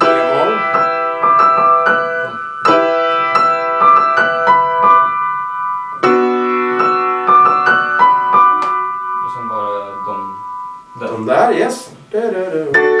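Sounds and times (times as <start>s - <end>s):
upright piano chords and notes: 0.0s - 13.0s.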